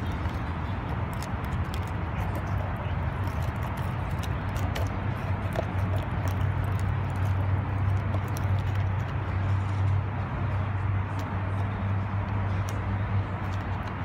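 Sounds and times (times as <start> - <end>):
distant traffic hum: 0.0 - 14.0.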